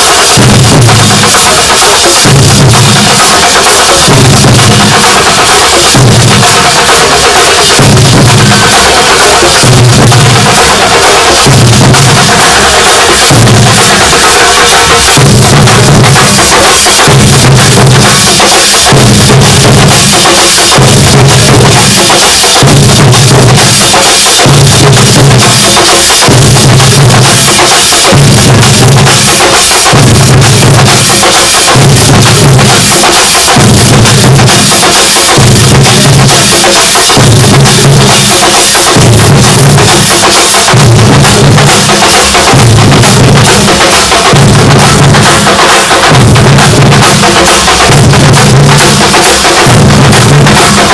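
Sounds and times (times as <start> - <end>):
rapid clatter of drum strokes: 0.0 - 50.9.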